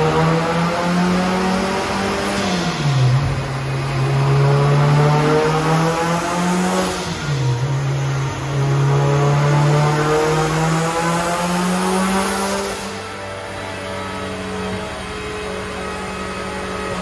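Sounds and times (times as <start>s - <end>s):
car engine revving on dyno: 0.0s - 17.0s.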